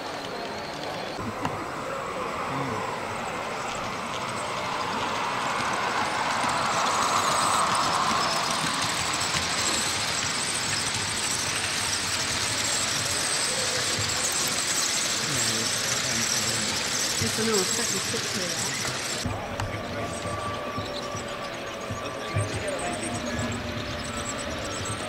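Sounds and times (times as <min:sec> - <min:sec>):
hubbub of crowded hall: 0:00.0 - 0:25.0
model train running: 0:00.0 - 0:25.0.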